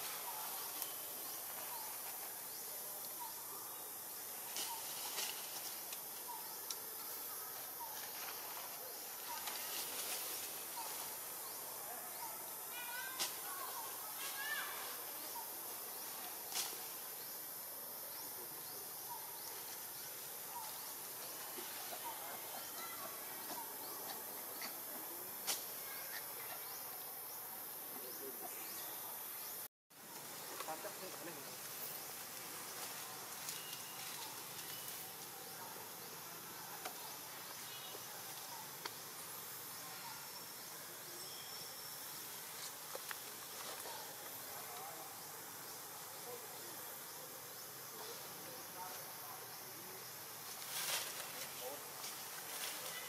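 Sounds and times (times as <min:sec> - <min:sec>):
steady high-pitched hiss: 0:00.0 - 0:53.0.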